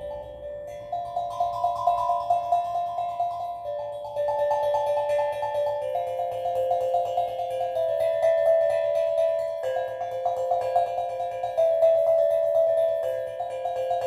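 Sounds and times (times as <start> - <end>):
steel drum notes: 0.0 - 14.0.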